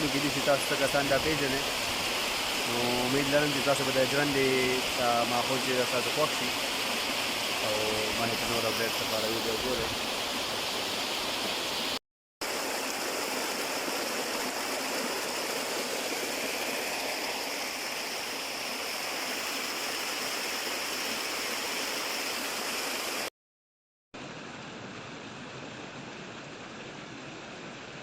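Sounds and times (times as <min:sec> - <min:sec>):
flowing water rushing: 0:00.0 - 0:23.3.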